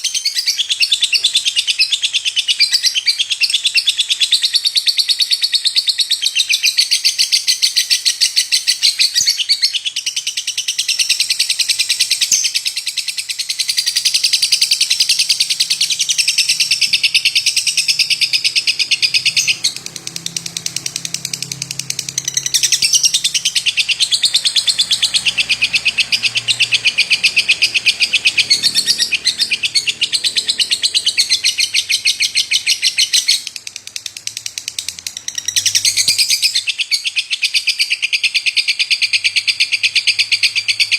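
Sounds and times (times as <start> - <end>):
lovebird chattering: 0.0 - 40.9.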